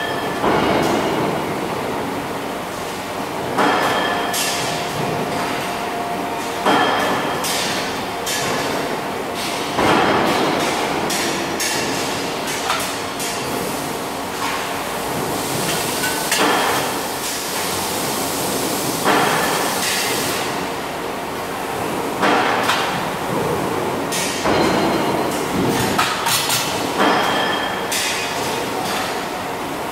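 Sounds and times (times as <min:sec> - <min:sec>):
loud factory din: 0:00.0 - 0:29.9.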